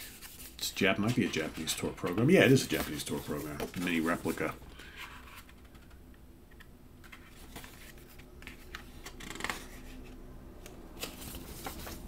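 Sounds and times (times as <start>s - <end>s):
paper pages rustling: 0.0s - 6.0s, 7.0s - 10.2s, 11.0s - 12.0s.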